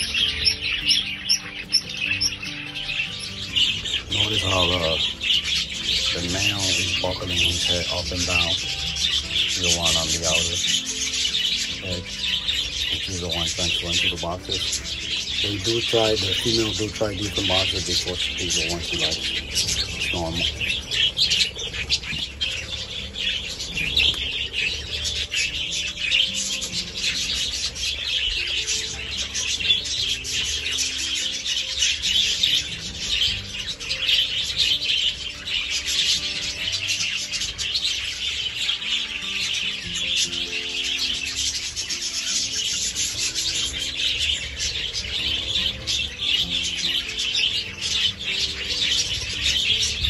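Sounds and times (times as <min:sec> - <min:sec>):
budgerigars chattering and chirping: 0:00.0 - 0:50.0
quiet background music: 0:00.0 - 0:50.0.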